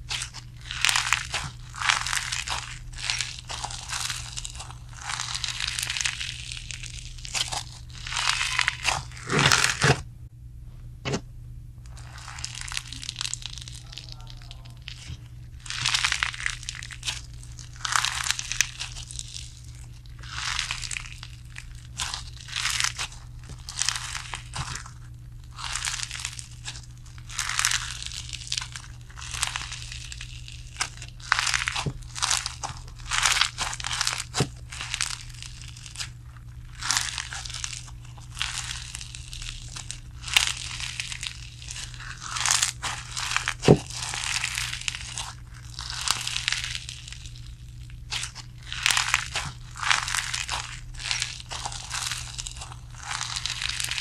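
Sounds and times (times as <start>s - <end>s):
slime crackling and crunching: 0.0s - 10.0s, 11.9s - 54.0s.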